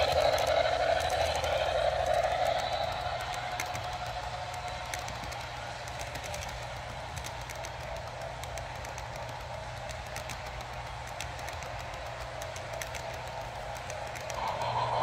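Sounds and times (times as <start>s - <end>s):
model train cars rolling: 0.0s - 15.0s
small wheels clicking over rail joints: 0.0s - 15.0s.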